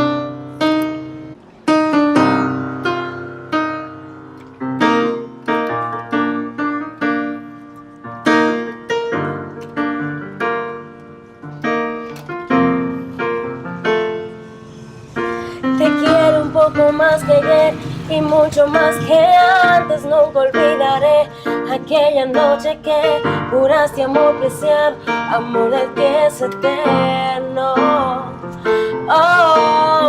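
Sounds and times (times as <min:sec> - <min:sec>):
slow piano ballad: 0:00.0 - 0:30.0.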